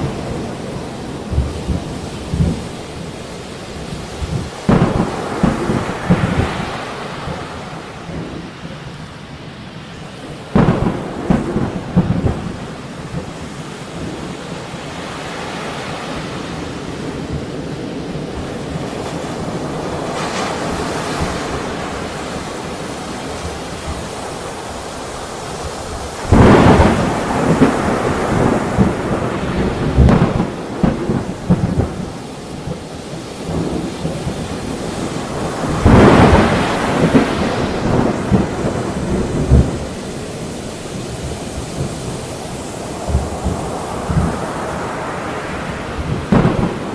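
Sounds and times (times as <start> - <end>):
thunder cracking and rumbling: 0.0 - 9.0, 10.4 - 46.9
steady rain: 0.0 - 46.9.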